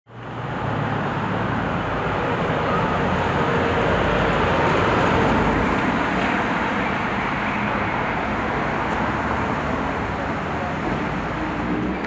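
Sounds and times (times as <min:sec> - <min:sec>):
cars passing on road: 0:00.1 - 0:12.0.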